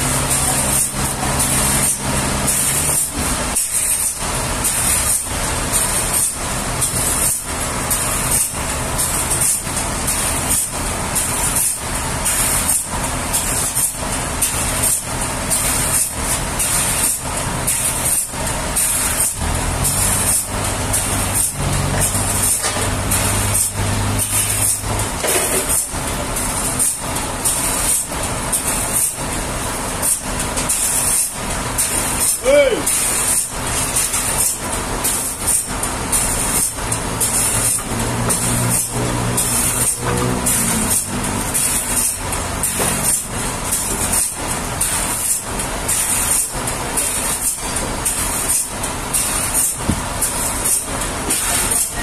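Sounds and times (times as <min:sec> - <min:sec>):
sawmill machinery rushing hiss: 0:00.0 - 0:52.0.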